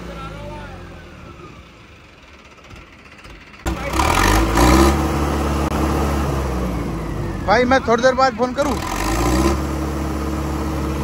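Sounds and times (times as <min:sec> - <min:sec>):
vehicle engine running hard: 0:00.0 - 0:11.0.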